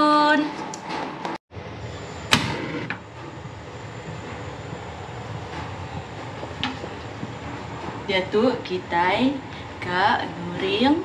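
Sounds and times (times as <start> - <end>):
gas burner hissing: 1.5 - 11.0.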